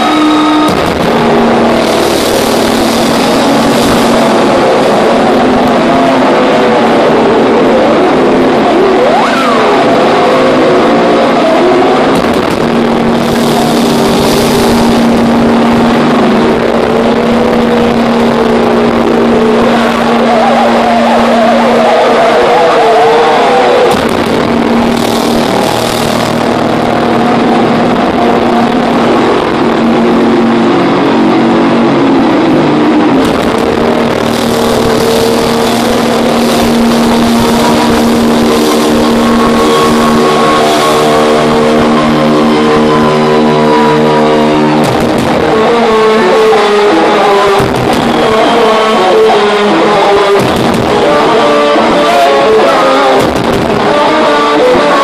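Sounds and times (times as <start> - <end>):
drums: 0.0 - 9.4, 12.0 - 22.5, 23.4 - 30.4, 33.0 - 42.6, 44.8 - 49.3, 50.0 - 52.0, 53.2 - 54.2
distorted electric guitars: 0.0 - 55.0
ringing guitar chords: 0.0 - 55.0
thrash metal band playing live: 0.0 - 55.0.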